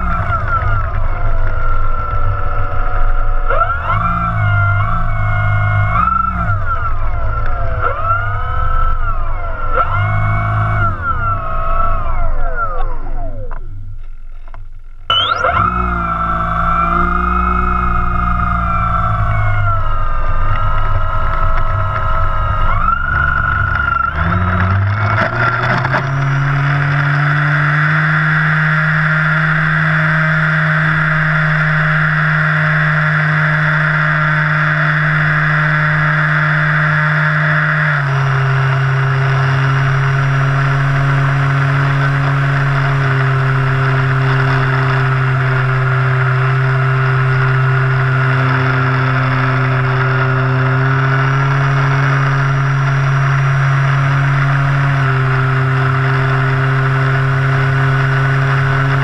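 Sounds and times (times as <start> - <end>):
electric motor and propeller drone: 0.0 - 59.0.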